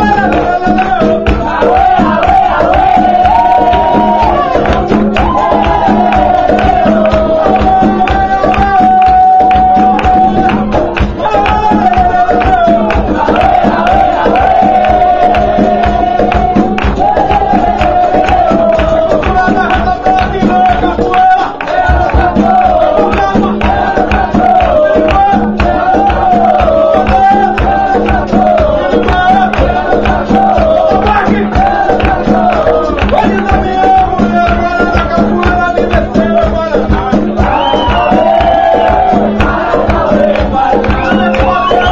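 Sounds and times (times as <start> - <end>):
percussion strokes: 0.0 - 41.9
voices singing together: 0.0 - 41.9.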